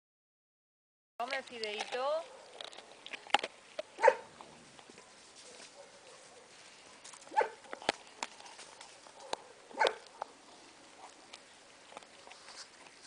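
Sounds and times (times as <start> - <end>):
dog chewing and crunching bone: 1.2 - 13.0.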